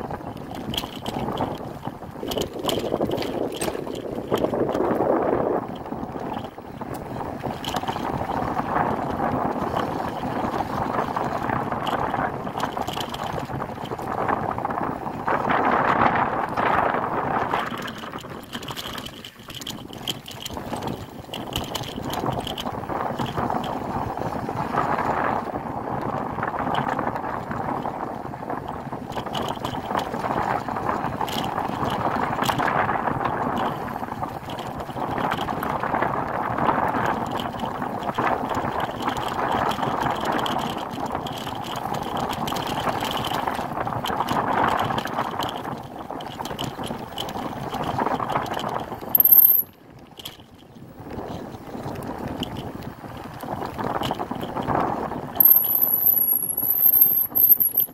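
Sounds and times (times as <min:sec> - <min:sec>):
bicycle tyres on dirt: 0:00.0 - 0:57.9
bike rattling: 0:00.0 - 0:57.9
wind across microphone: 0:00.0 - 0:57.9.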